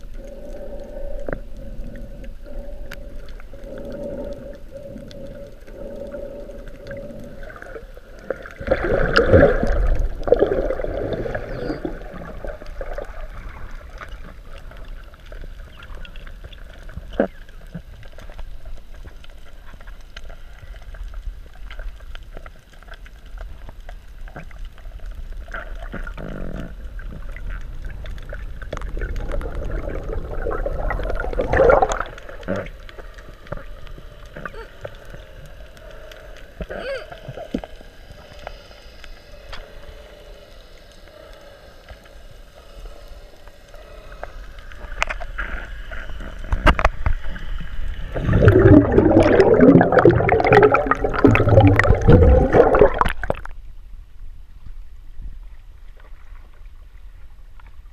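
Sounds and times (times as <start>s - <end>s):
underwater water rushing: 0.0s - 53.8s.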